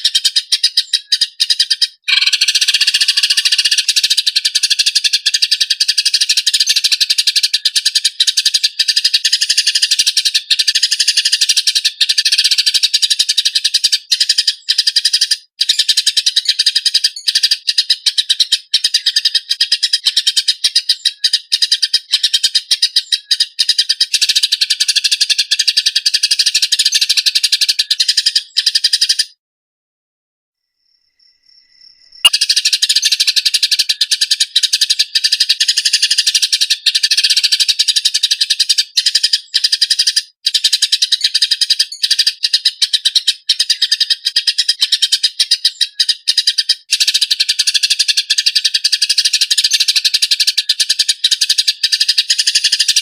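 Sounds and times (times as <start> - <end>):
sparrows chattering: 0.0 - 29.4, 32.2 - 53.0.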